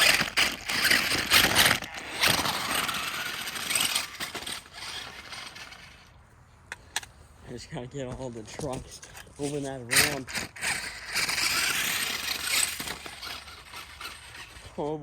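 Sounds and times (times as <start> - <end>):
rc truck drivetrain whirring: 0.0 - 15.0.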